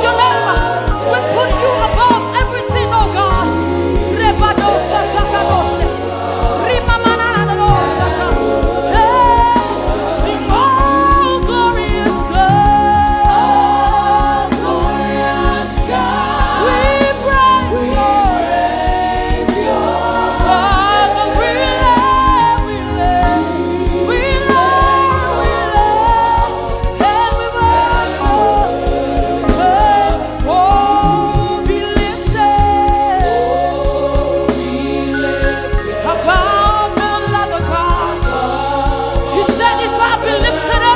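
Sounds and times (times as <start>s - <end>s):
band playing chords and beat: 0.0s - 40.9s
gospel singing: 0.0s - 40.9s.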